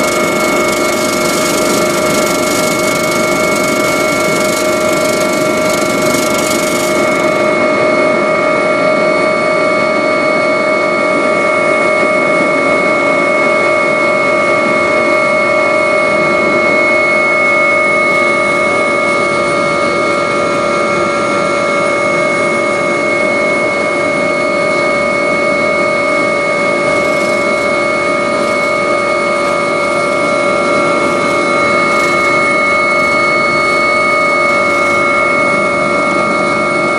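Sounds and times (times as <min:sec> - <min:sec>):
helicopter turbine and rotor: 0:00.0 - 0:36.9.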